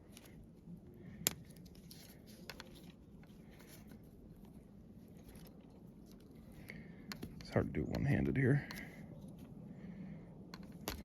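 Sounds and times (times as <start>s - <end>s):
faint clicks and rustles of hands: 0.0s - 9.6s.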